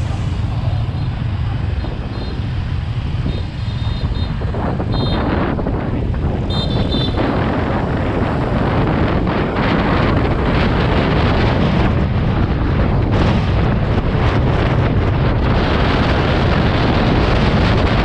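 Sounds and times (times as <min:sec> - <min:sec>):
road and engine rumble: 0:00.0 - 0:18.0
wind buffeting microphone: 0:00.0 - 0:18.0.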